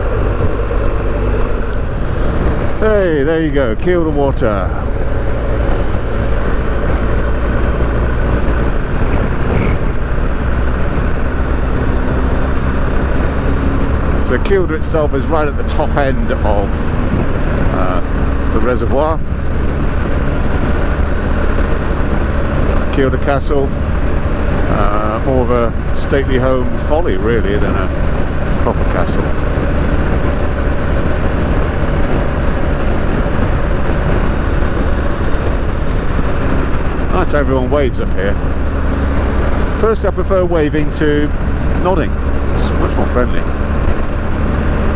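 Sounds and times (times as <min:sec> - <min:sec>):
motorcycle engine cruising: 0:00.0 - 0:44.9
wind and road noise: 0:00.0 - 0:44.9.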